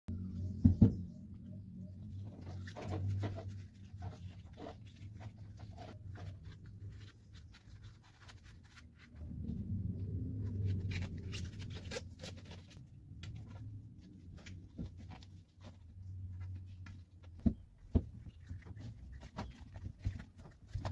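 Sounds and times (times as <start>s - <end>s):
low steady hum: 0.1s - 20.9s.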